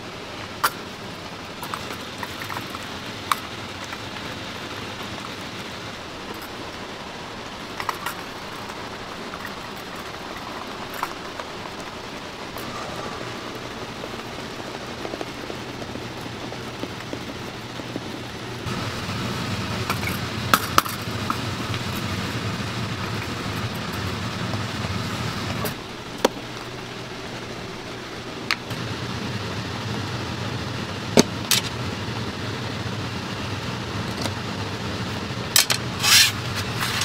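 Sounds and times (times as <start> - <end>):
steady burner hiss: 0.0 - 37.0.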